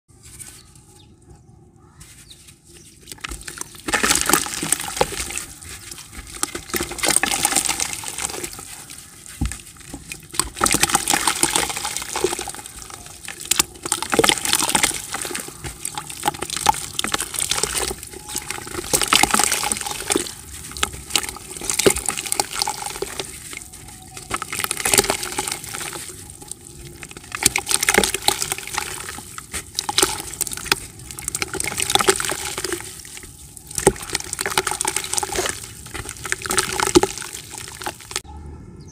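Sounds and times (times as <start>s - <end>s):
dry dirt crumbling in hands: 1.8s - 38.2s
crumbs dropping into water: 3.1s - 38.2s.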